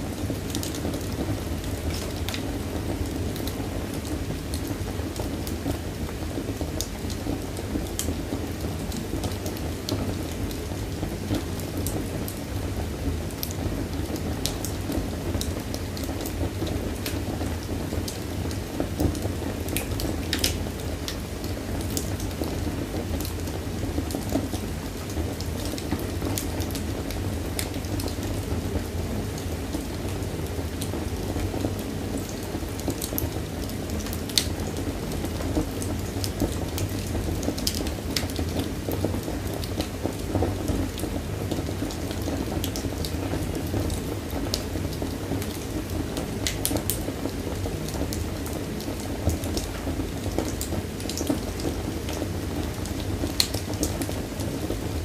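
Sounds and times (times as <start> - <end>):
wood fire crackling and popping: 0.1 - 55.0.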